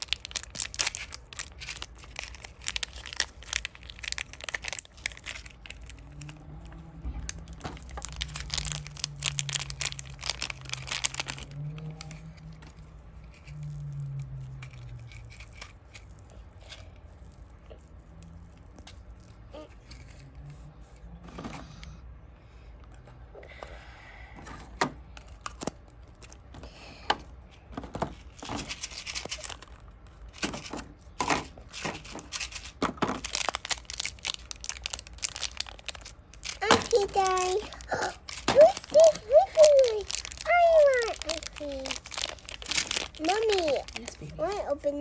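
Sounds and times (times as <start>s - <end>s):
plastic packaging crinkling and tearing: 0.0s - 20.2s, 28.2s - 45.0s.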